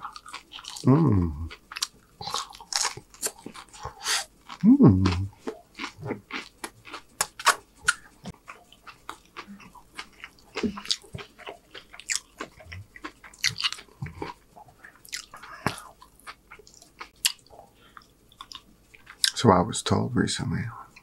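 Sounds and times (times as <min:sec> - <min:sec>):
person chewing food: 0:00.0 - 0:19.4.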